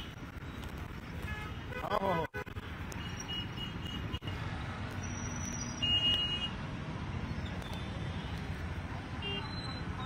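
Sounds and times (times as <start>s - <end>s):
traffic engines rumbling: 0.0s - 10.0s.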